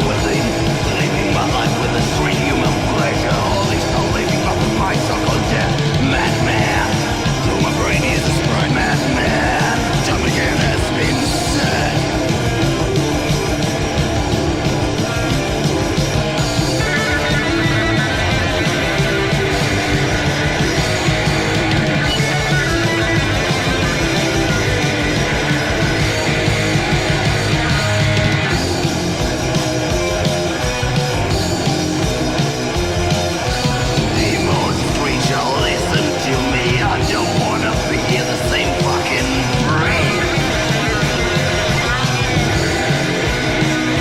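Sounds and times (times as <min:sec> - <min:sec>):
heavy metal band playing: 0:00.0 - 0:44.0
heavy metal music: 0:00.0 - 0:44.0.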